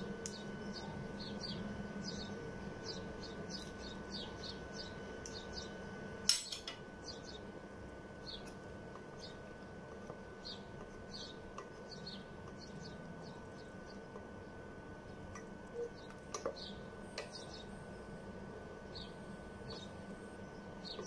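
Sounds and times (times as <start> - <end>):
faint steady high whine: 0.0 - 21.0
small birds chirping: 0.3 - 5.8, 7.0 - 7.5, 8.2 - 9.5, 10.2 - 17.8, 18.9 - 21.0.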